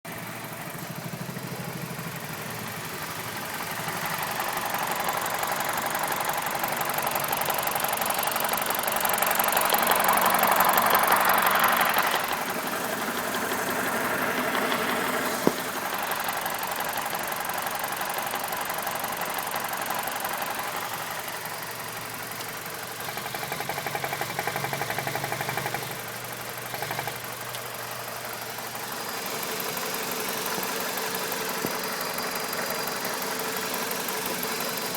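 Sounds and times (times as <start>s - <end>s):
car engine idling roughly: 0.0s - 34.9s.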